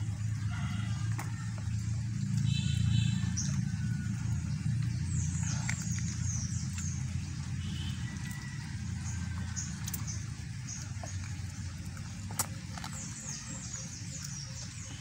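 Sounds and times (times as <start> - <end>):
low steady rumble: 0.0 - 15.0
chewing with wet clicks: 1.0 - 15.0.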